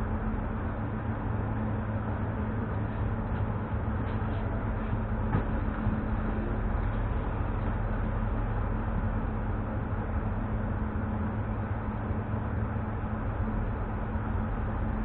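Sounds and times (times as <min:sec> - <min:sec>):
train hum and ventilation: 0:00.0 - 0:15.0.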